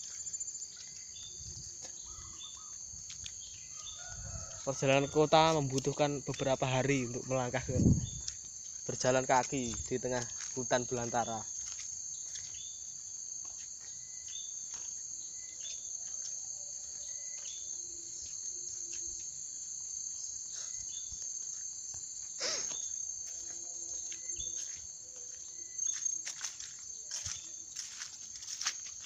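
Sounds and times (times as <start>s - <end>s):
forest insects droning: 0.0s - 29.0s.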